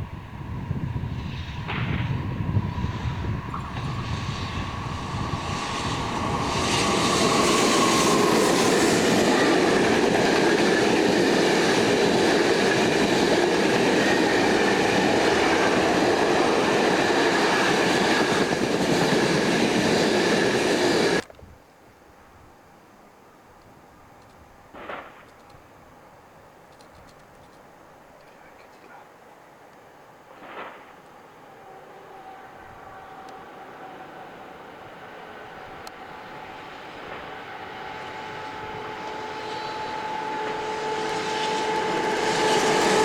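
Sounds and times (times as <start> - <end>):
train running on rails: 0.0 - 21.3, 26.5 - 43.0.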